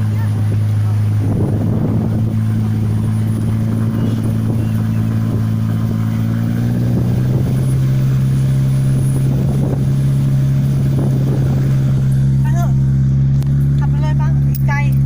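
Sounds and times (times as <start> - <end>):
car engine with loud exhaust: 0.0 - 15.0
wind and road rumble: 0.0 - 15.0.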